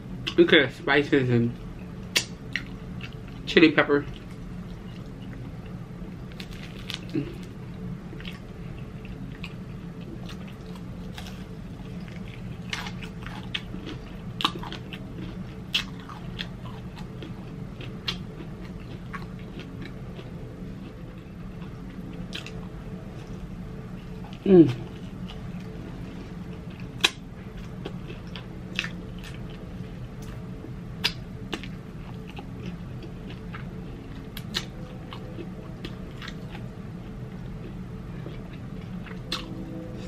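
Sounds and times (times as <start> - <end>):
faint low hum: 0.0 - 40.0
crunchy chewing: 4.0 - 25.8, 26.4 - 40.0.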